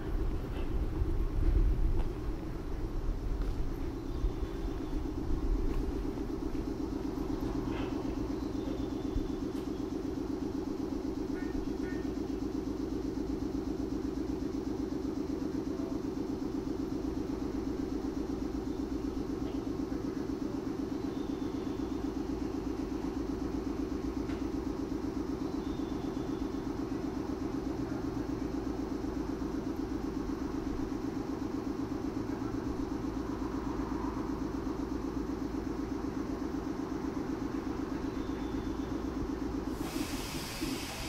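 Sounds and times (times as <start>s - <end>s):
low pulsing vehicle rumble: 0.0s - 41.0s.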